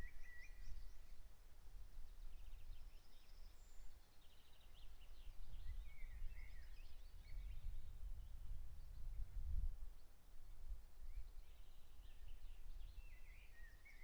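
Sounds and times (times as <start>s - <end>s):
songbirds chirping and trilling: 0.0s - 10.4s, 11.0s - 14.0s.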